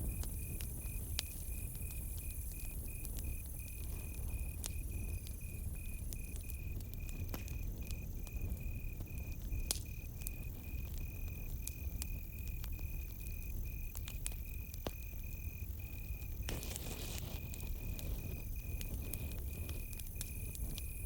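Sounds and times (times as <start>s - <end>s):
campfire crackling and popping: 0.0s - 21.0s
cricket chirping: 0.0s - 21.0s.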